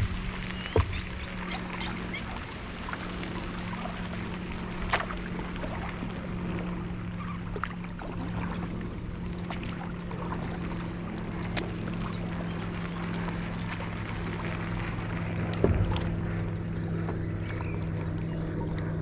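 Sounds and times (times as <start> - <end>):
paddle strokes splashing in water: 0.0 - 19.0
steady low hum: 0.0 - 19.0.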